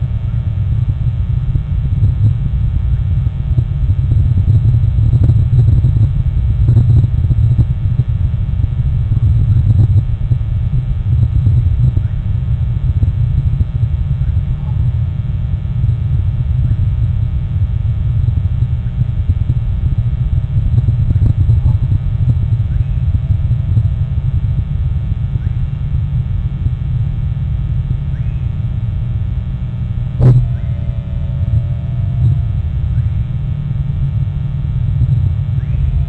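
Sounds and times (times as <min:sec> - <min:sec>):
faint scattered ticks: 0:00.0 - 0:36.0
faint steady hum: 0:00.0 - 0:36.0
loud low rumble: 0:00.0 - 0:36.0.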